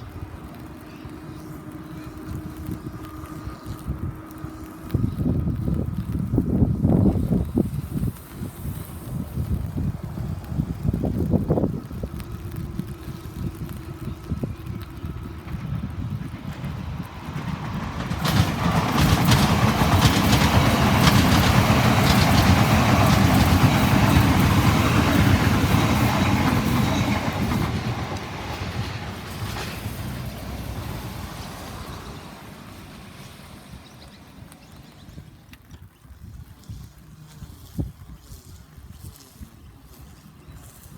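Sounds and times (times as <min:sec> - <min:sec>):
train passing close by: 0:00.0 - 0:35.4.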